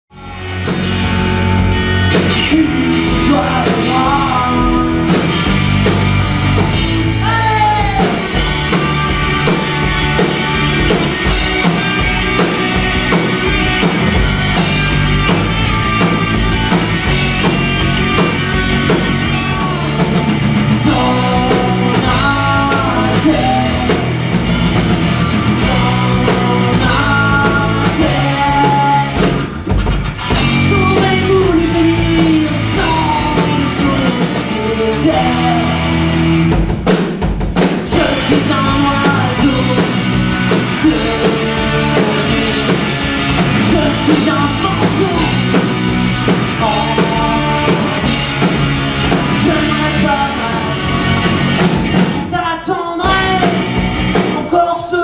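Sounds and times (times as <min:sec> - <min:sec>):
person singing lead vocal: 0:00.1 - 0:00.9, 0:01.8 - 0:05.7, 0:07.1 - 0:29.5, 0:30.3 - 0:36.5, 0:37.8 - 0:55.0
drum kit beat: 0:00.1 - 0:54.6
electric guitars: 0:00.1 - 0:55.0.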